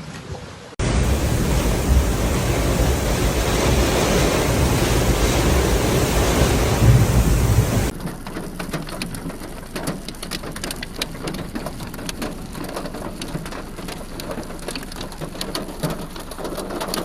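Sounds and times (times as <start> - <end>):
heavy rain on hard surface: 0.8 - 17.0.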